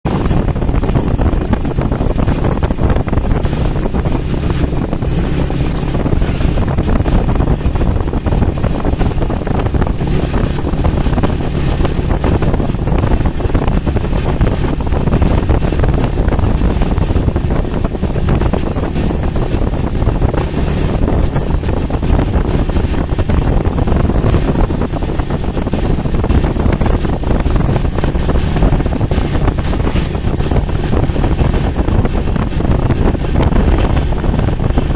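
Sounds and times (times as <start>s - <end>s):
moving vehicle rumble: 0.0s - 34.9s
wind buffeting microphone: 0.0s - 34.9s.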